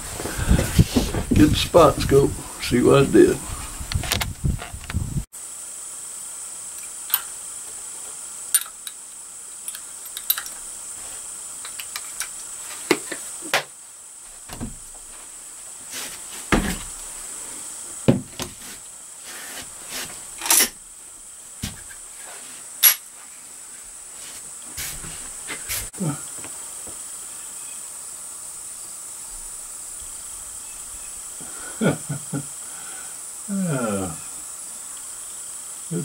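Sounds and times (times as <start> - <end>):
insect chorus: 0.0 - 36.0.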